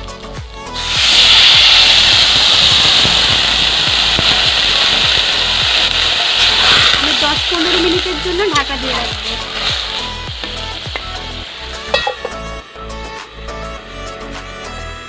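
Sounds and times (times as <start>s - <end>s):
water sizzling in hot wok: 0.0s - 15.0s.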